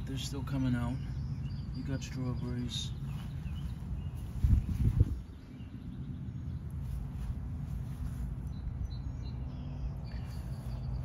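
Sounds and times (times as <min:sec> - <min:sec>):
faint bird chirps: 0:00.0 - 0:11.0
steady low hum: 0:00.0 - 0:11.0.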